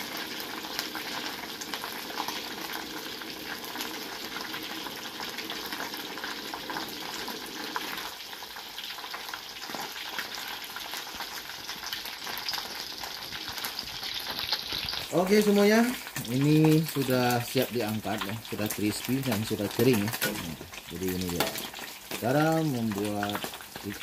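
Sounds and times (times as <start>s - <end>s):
deep-frying sizzle with crackling: 0.0s - 24.0s.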